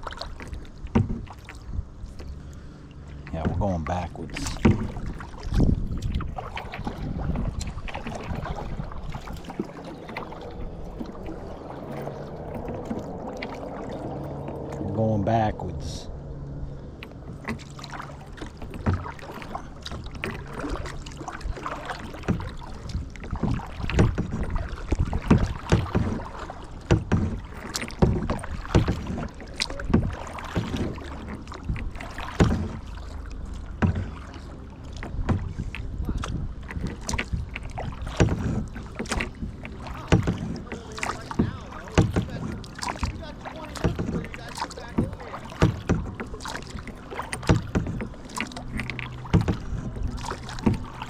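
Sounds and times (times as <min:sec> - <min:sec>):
kayak paddle splashing: 0:00.0 - 0:51.0
water washing: 0:00.0 - 0:51.0.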